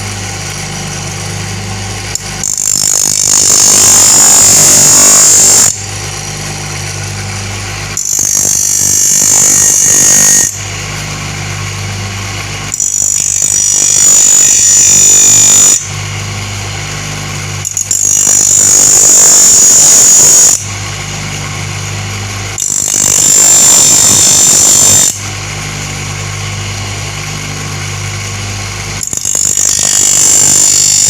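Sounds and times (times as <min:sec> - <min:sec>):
high-pitched blade grinding: 0:00.0 - 0:07.1, 0:07.9 - 0:16.0, 0:16.9 - 0:21.7, 0:22.5 - 0:31.0
electric grinder motor hum: 0:00.0 - 0:31.0.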